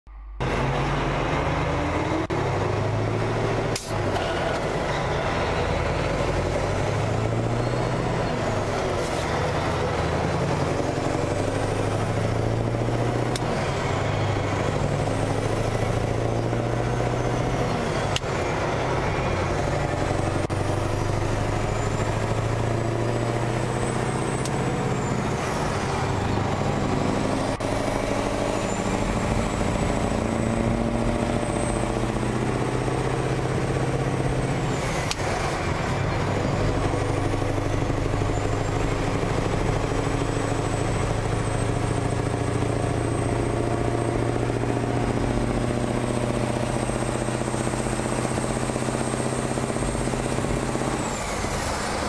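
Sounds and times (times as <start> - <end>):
diesel engine running: 0.1 - 52.0
road and wind noise: 0.1 - 52.0.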